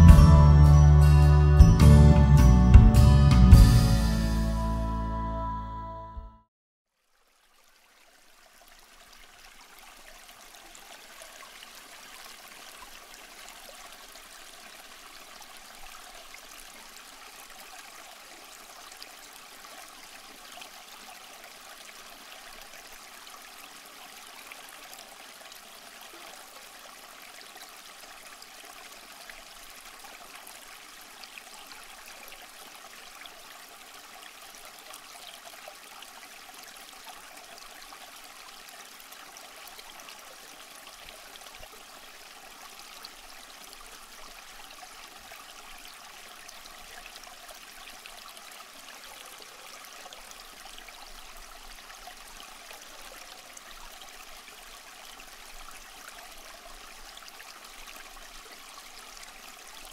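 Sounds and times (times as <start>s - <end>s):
fountain water trickling and splashing: 6.9s - 59.9s.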